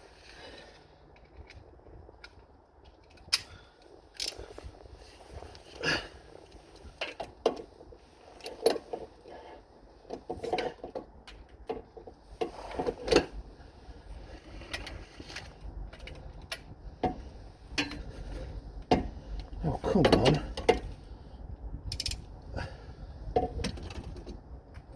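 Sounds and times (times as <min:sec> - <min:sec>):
wind rumble on microphone: 0:00.0 - 0:08.4, 0:10.1 - 0:24.9.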